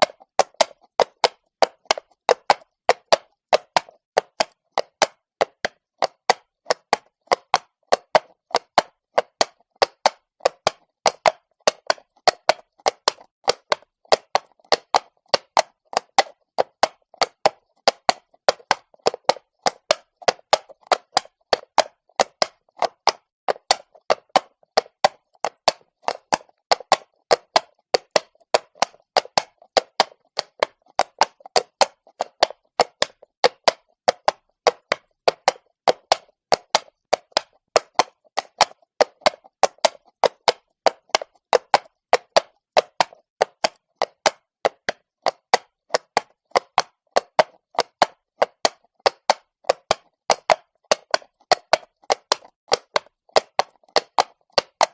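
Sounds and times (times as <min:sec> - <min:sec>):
horse hooves on cobblestones: 0:00.0 - 0:54.9.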